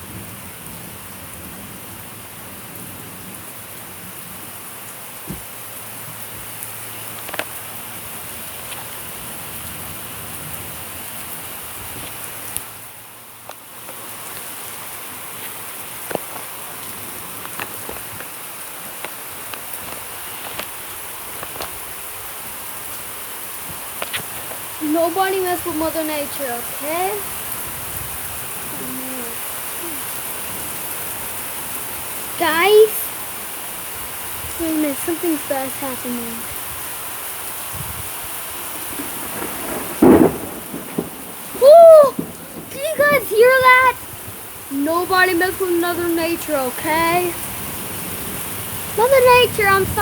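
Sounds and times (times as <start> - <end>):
heavy rain pouring: 0.0 - 50.0
raindrops tapping surfaces: 0.0 - 50.0.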